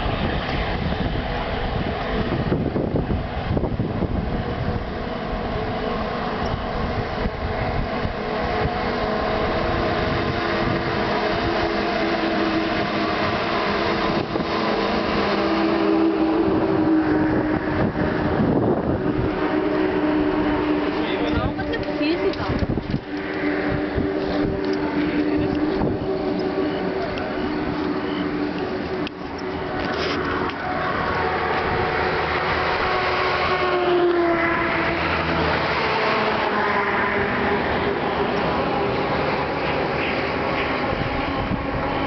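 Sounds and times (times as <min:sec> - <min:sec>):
highway traffic passing: 0:00.0 - 0:42.0
steady whistling whine: 0:00.0 - 0:42.0.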